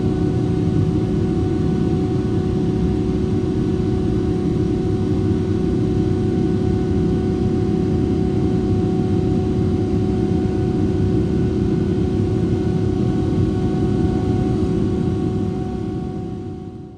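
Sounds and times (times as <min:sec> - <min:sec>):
jet engine rumble and airflow: 0:00.0 - 0:16.9.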